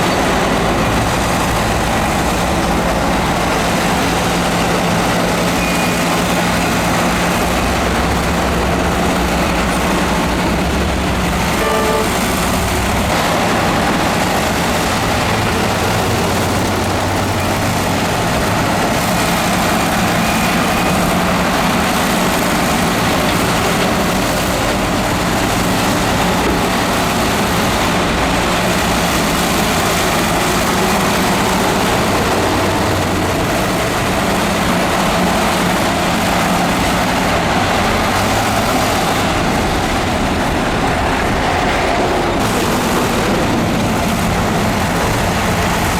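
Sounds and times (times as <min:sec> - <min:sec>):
diesel engine of heavy machinery: 0:00.0 - 0:45.9.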